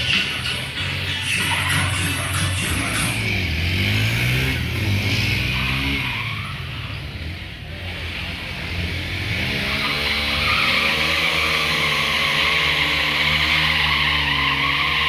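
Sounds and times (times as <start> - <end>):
tyre screeching in a skid: 0.0 - 7.3, 9.5 - 15.0
motorbike engine revving: 0.0 - 15.0.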